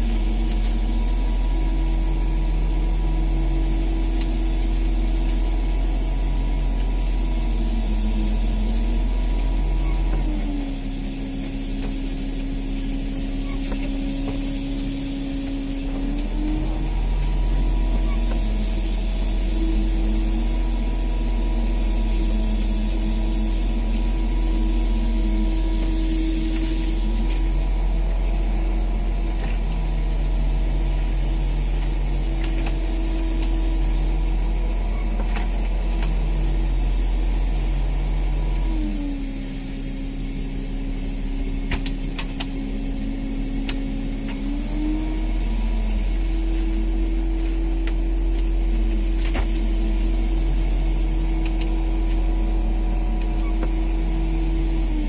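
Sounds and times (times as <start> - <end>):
boat engine and line hauler droning: 0.0 - 55.0.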